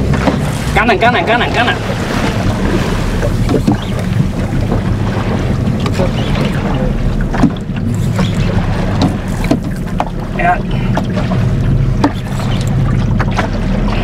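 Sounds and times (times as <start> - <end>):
boat engine droning: 0.0 - 14.0
water noise: 0.0 - 14.0
wind: 0.0 - 14.0.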